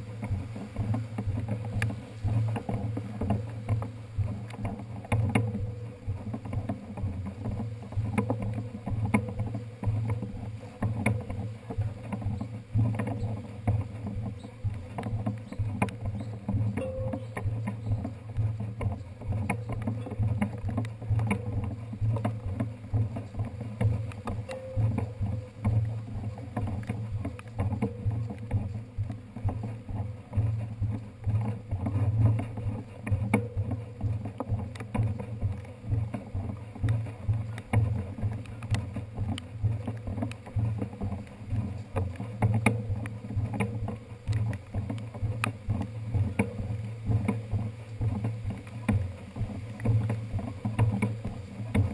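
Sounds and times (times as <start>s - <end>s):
bike knocks and rattles: 0.0s - 51.9s
muffled rumble of bicycle wheels: 0.0s - 51.9s.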